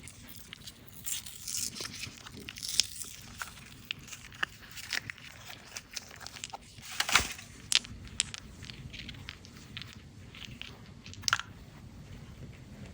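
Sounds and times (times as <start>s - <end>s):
candy wrapper crinkling: 0.0s - 11.5s.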